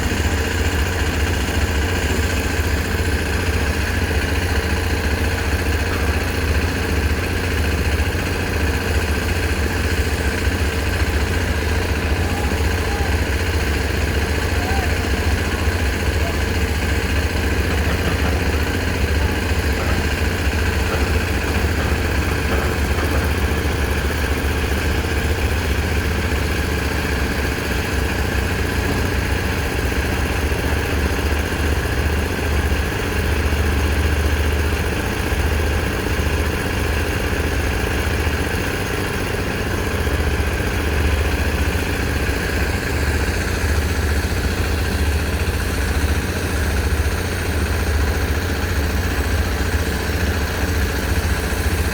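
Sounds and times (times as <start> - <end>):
construction machine engine idling: 0.0 - 51.9.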